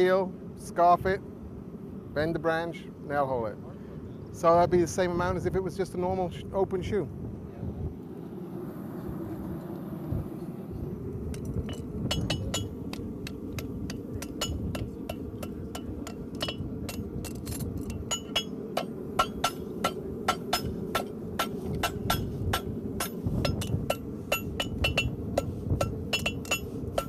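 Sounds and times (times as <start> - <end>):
steady low noise: 0.0 - 27.0.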